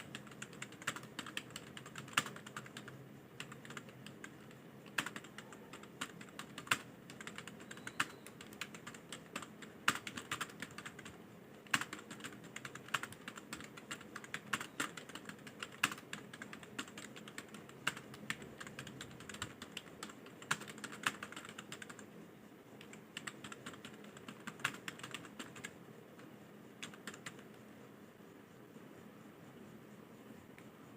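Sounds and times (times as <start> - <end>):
computer keyboard typing: 0.0 - 22.1, 22.8 - 27.6.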